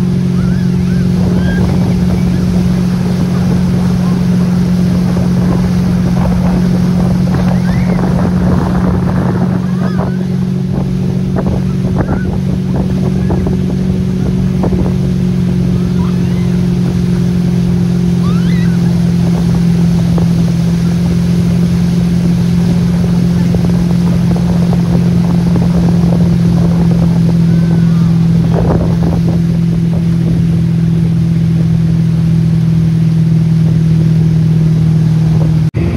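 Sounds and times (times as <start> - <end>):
motorboat engine running: 0.0 - 35.9
wake water rushing: 0.0 - 35.9
wind buffeting microphone: 0.0 - 35.9.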